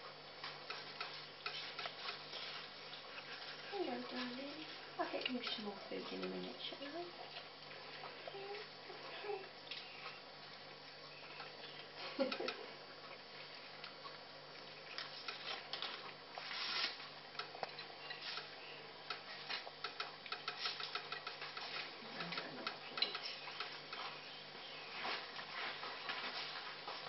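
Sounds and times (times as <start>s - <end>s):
puppies chewing and licking: 0.1s - 27.0s.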